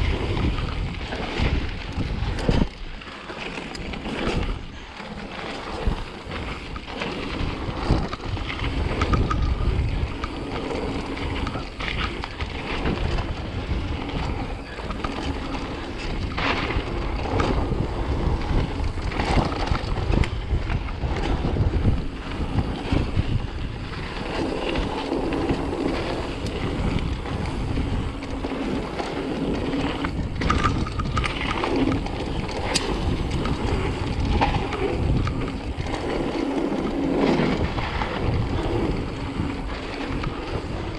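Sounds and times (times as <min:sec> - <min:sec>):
bike knocking and rattling: 0:00.0 - 0:40.9
tyres rumbling on dirt: 0:00.0 - 0:40.9
wind buffeting microphone: 0:00.0 - 0:40.9.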